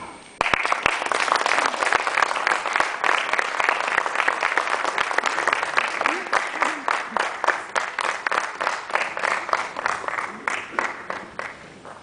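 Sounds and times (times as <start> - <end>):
audience applause: 0.4 - 12.0.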